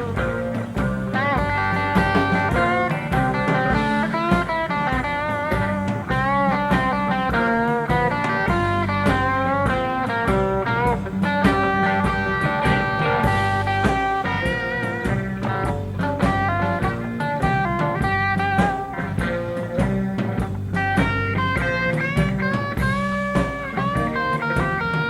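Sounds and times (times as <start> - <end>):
blues-rock band playing: 0.0 - 25.0
electric guitar lead: 0.0 - 25.0.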